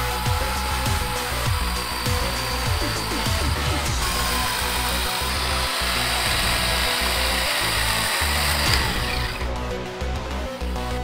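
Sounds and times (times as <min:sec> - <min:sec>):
chainsaw cutting log: 0:00.0 - 0:09.5
music with steady beat: 0:00.0 - 0:11.0.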